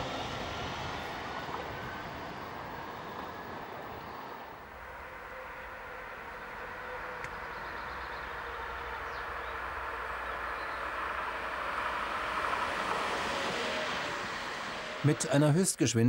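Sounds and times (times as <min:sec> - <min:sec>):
tram rolling on track: 0:00.0 - 0:15.8.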